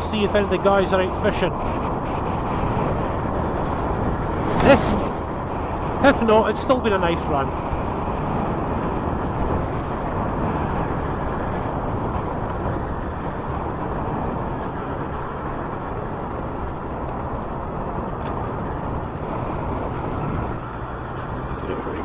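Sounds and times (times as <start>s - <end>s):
motorcycle engine cruising: 0.0s - 22.0s
road noise: 0.0s - 22.0s
wind rushing over microphone: 0.0s - 22.0s.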